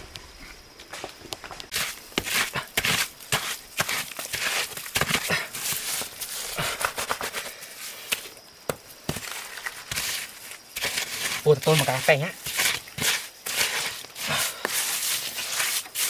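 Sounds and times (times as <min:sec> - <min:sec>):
hands scraping and squelching mud: 0:01.7 - 0:08.3, 0:09.1 - 0:16.0.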